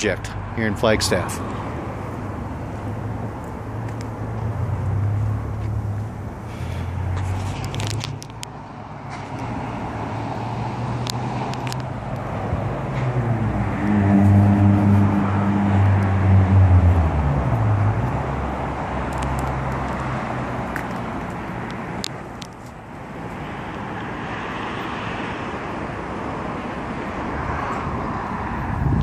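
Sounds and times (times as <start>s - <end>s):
steady traffic noise: 0.0s - 29.0s
vehicle engine hum: 0.0s - 29.0s.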